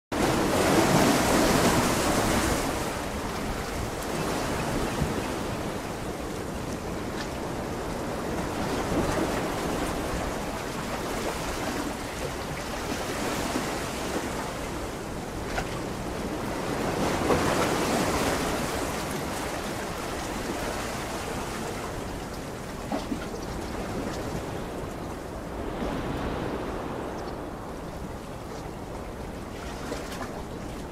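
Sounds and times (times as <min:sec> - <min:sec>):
sea waves breaking: 0:00.1 - 0:30.9.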